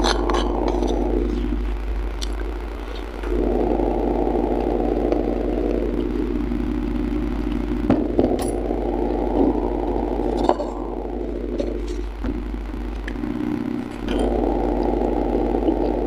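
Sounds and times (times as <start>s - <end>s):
motor-like drone: 0.0s - 16.0s.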